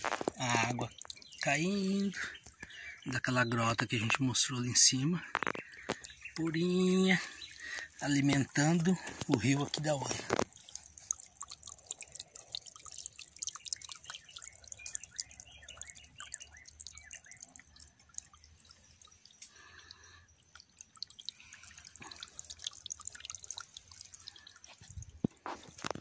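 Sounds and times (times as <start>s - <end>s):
water trickling over rocks: 0.0s - 26.0s.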